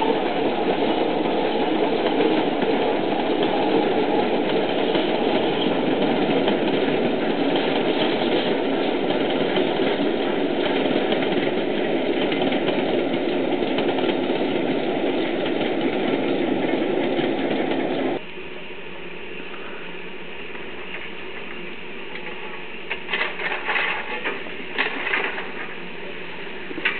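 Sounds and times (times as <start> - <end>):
train rumble: 0.0 - 18.3, 20.5 - 26.9.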